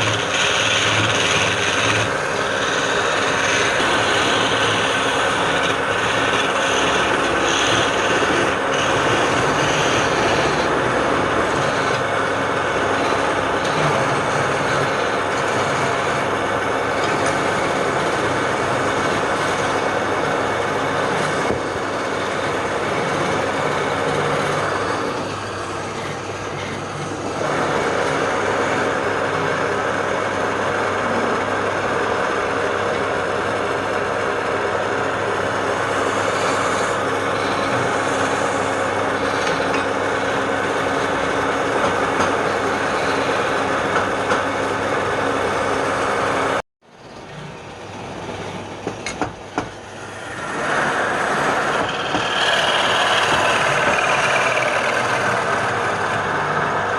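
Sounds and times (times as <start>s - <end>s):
woodworking machine humming: 0.0s - 46.6s, 49.2s - 56.9s.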